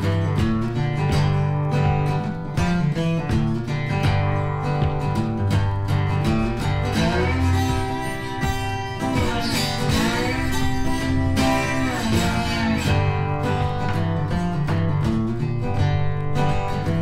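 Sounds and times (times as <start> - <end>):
acoustic guitar country tune: 0.0 - 17.0.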